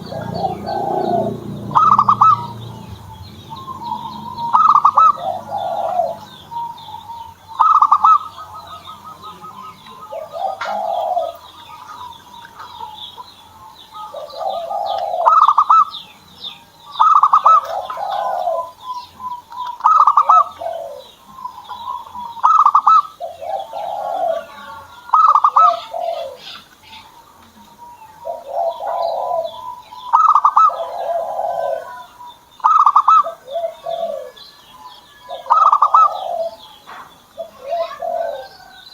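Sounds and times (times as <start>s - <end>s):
dove cooing: 0.0s - 38.9s
small birds chirping: 0.0s - 38.9s.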